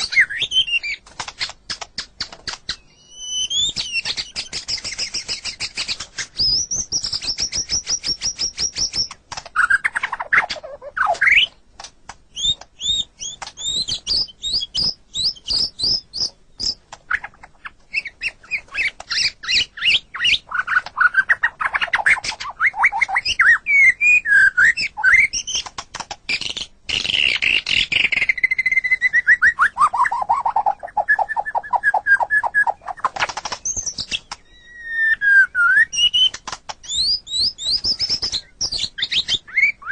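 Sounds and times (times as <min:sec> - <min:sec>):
songbird singing trills and whistles: 0:00.0 - 0:11.6, 0:12.3 - 0:39.9.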